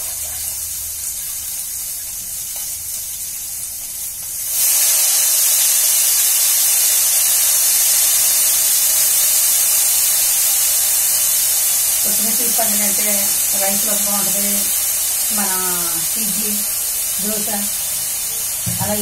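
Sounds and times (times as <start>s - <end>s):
hot oil sizzling in a pan: 0.0s - 19.0s.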